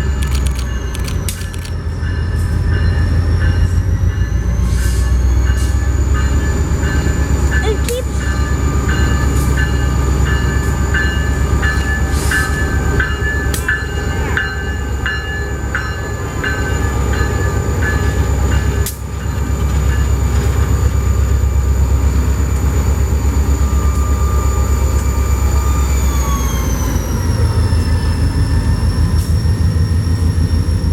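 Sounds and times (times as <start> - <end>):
diesel locomotive rumbling: 0.0 - 30.9.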